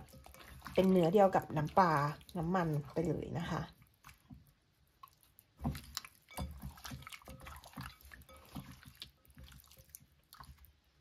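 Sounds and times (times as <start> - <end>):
hands squelching raw meat: 0.0 - 11.0.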